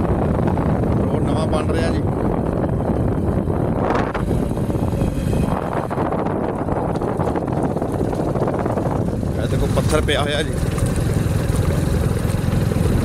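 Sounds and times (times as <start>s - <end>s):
vehicle travelling along a road: 0.0s - 13.0s
wind rumbling on microphone: 0.0s - 13.0s.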